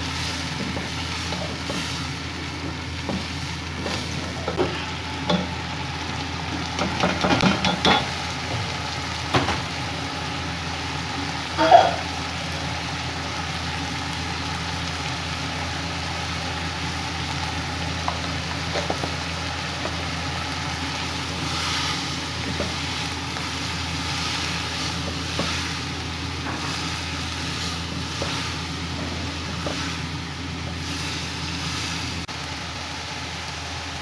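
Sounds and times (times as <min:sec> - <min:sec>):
vegetables sizzling in a wok: 0:00.0 - 0:34.0.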